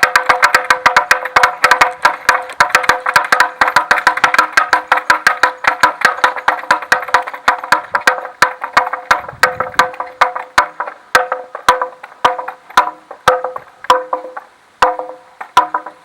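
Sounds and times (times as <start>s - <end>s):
wooden rattle clattering: 0.0s - 16.0s.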